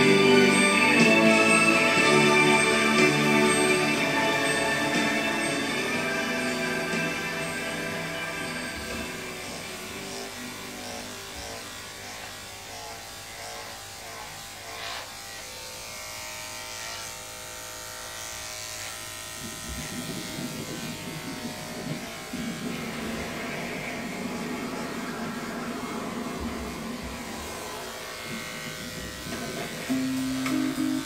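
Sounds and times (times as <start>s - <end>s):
electric clippers buzzing: 0.0s - 31.0s.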